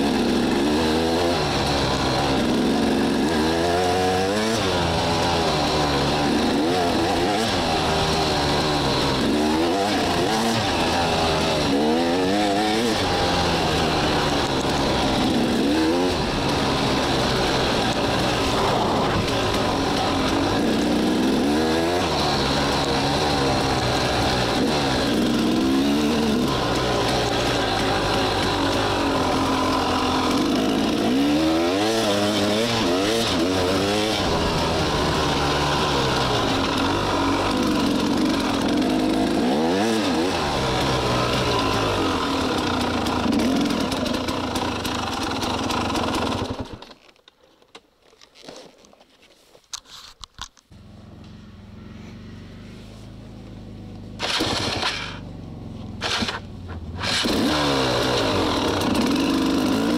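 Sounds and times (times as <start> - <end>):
two-stroke motorcycle engine revving: 0.0 - 47.0, 50.7 - 59.9.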